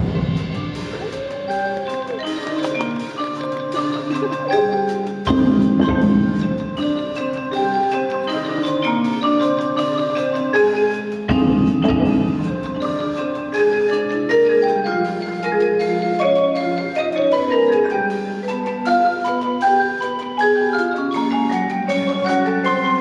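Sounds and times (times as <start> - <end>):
tuned mallet percussion playing: 0.4 - 23.0.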